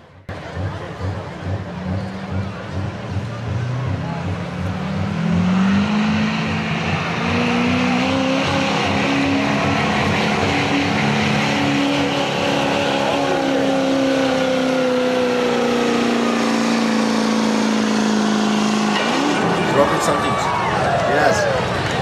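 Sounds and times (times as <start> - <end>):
diesel engine revving hard: 0.3 - 22.0.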